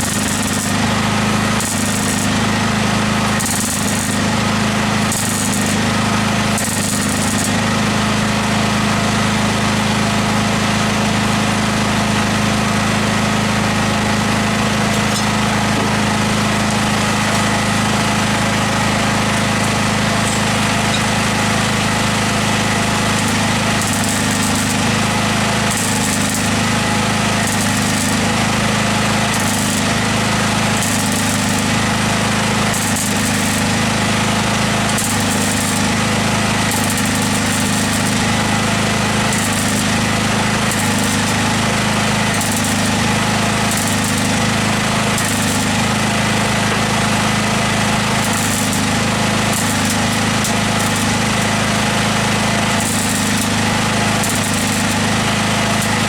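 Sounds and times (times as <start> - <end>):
machine motor running: 0.0 - 56.0.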